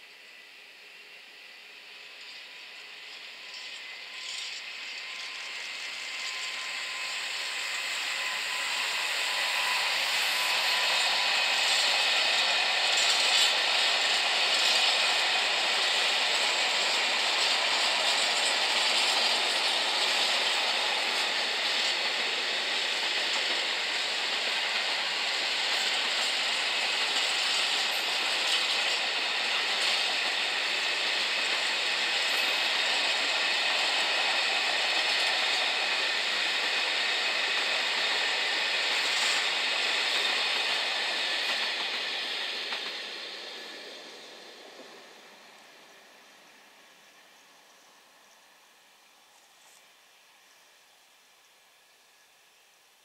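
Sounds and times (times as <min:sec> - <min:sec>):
train wheels rushing on rails: 0:00.0 - 0:50.9
freight train passing: 0:00.0 - 0:52.8.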